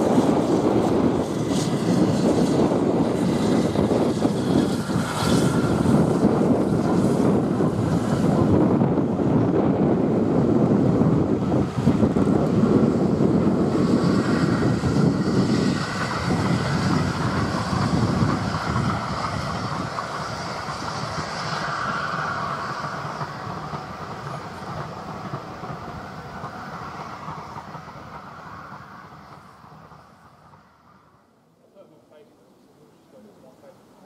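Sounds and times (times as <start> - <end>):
train coaches rolling on rails: 0.0 - 34.0.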